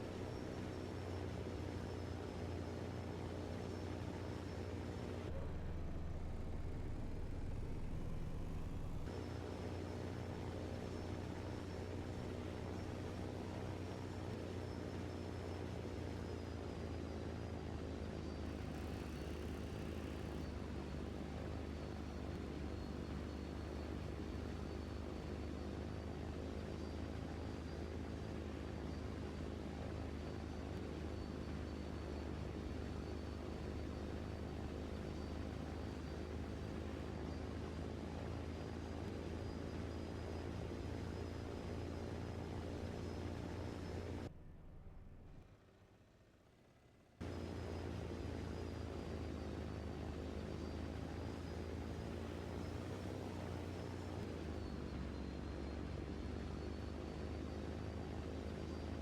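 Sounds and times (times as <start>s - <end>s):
engine running steadily: 0.0s - 59.0s
faint high whine: 0.0s - 59.0s.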